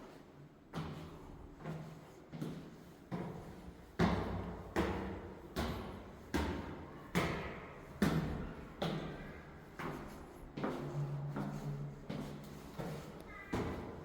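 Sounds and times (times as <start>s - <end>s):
echoing footsteps on stairs: 0.0s - 14.0s.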